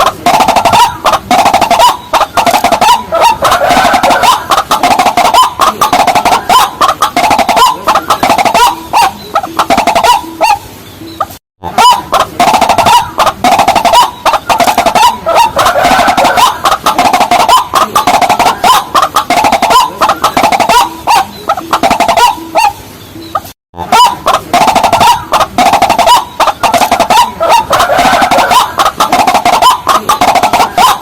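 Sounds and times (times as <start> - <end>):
rails calling rapidly: 0.0 - 31.0.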